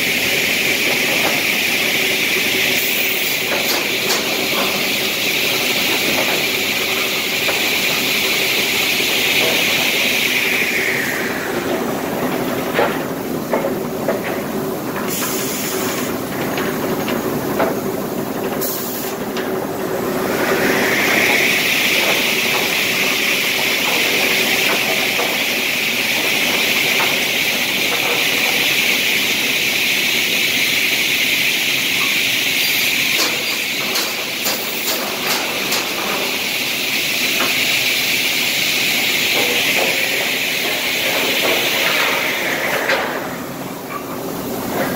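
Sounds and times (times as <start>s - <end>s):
saw machine din with whine: 0.0s - 14.4s, 19.7s - 44.2s.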